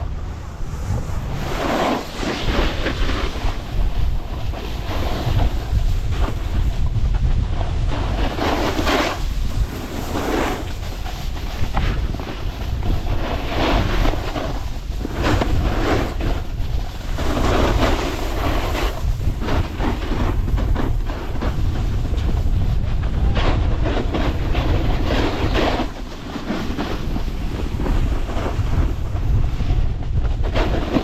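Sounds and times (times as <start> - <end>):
snowboard edges scraping snow: 0.0 - 31.0
wind rumble on microphone: 0.0 - 31.0.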